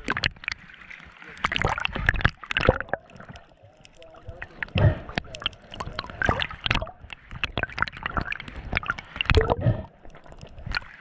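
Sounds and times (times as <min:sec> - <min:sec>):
water gurgling and splashing: 0:00.0 - 0:11.0
irregular clicks and pops: 0:01.4 - 0:11.0.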